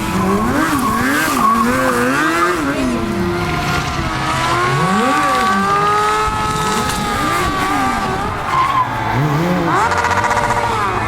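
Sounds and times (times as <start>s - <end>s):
tyre squealing: 0.0s - 3.2s, 3.9s - 11.0s
motorcycle engine revving: 0.0s - 11.0s.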